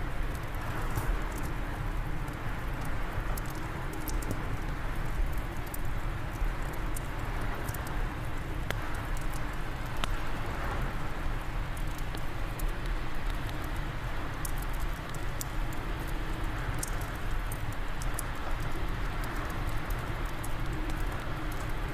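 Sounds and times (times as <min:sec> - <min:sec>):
low rush of wind: 0:00.0 - 0:21.9
wood fire crackling and popping: 0:00.0 - 0:21.9.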